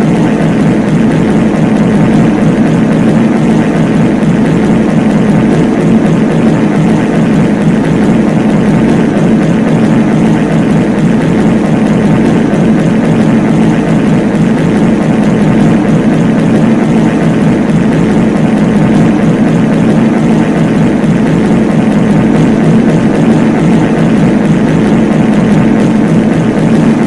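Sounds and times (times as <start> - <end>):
layered fart sound effects: 0.0 - 27.0.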